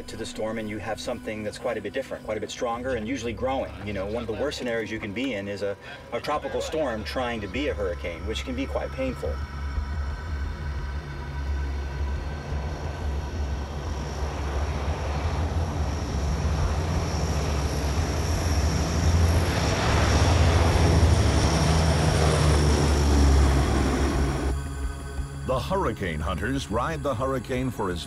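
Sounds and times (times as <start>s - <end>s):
turboprop engines droning: 0.0s - 28.0s.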